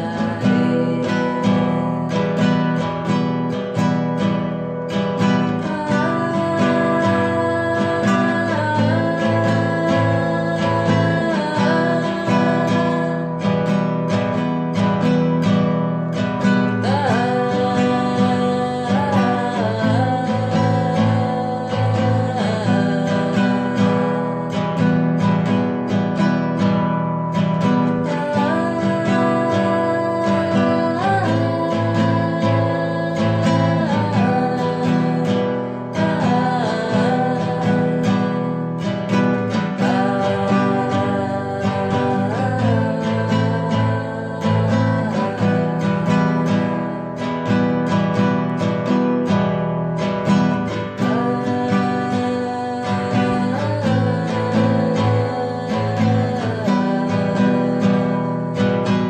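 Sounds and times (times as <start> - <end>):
acoustic guitar chords: 0.0 - 59.0.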